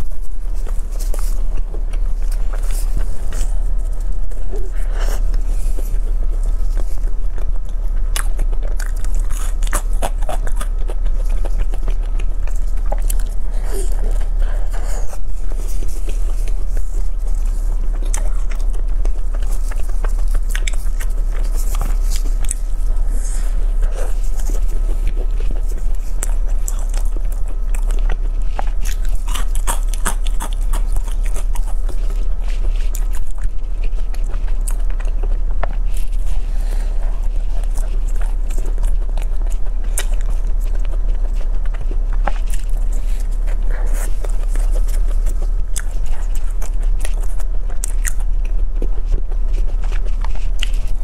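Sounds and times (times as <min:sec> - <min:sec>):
chewing crunchy pastry: 0:00.0 - 0:51.0
constant low hum: 0:00.0 - 0:51.0.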